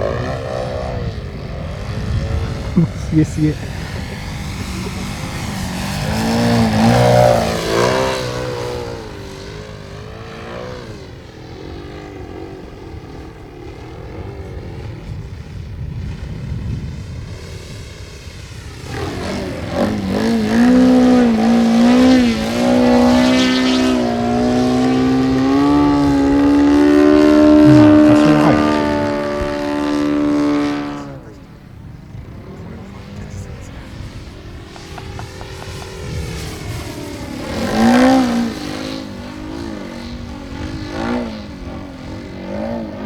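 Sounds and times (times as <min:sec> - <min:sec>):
model airplane motor and propeller: 0:00.0 - 0:43.0.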